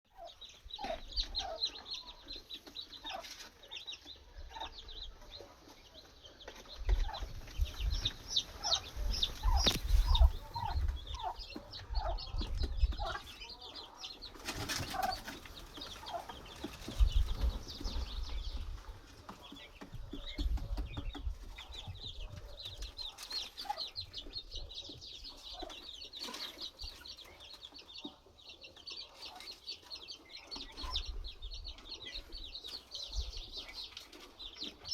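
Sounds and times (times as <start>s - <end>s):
chicks peeping: 0.1s - 34.9s
hens clucking: 0.1s - 34.9s.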